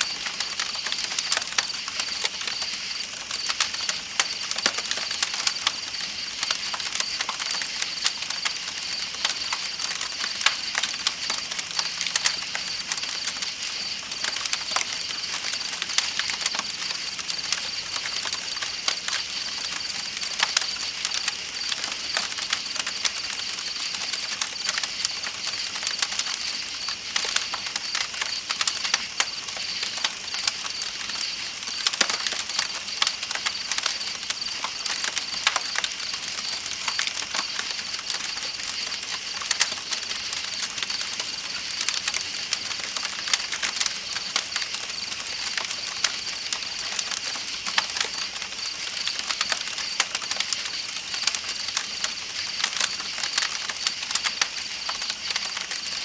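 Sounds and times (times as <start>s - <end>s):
campfire crackling and popping: 0.0s - 56.0s
night insects trilling: 0.0s - 56.0s.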